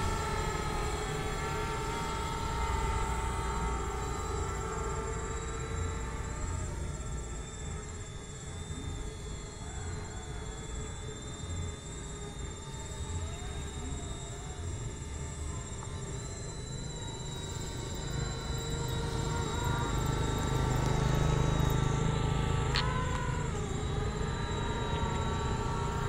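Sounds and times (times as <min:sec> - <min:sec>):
drone propellers buzzing: 0:00.0 - 0:26.0.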